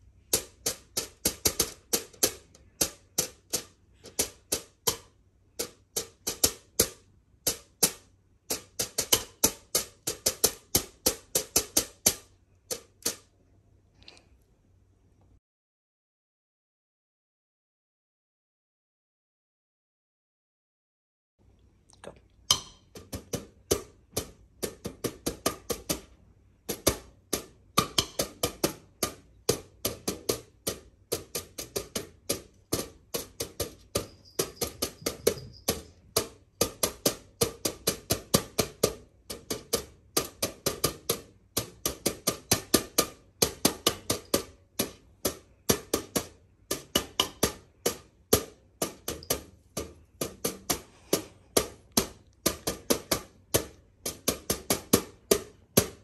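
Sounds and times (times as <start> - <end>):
wooden spoon beating foil drum: 0.2 - 13.2, 22.5 - 56.0.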